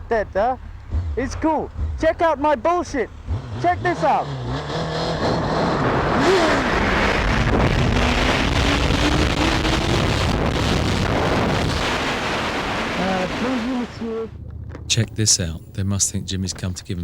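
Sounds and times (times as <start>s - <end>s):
motorcycle engine accelerating: 0.3s - 14.8s.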